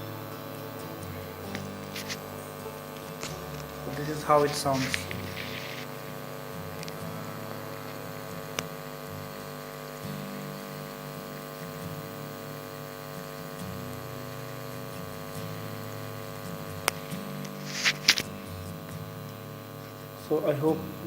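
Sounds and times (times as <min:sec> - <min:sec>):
steady electrical hum: 0:00.0 - 0:21.0
water boiling in a glass: 0:00.0 - 0:21.0.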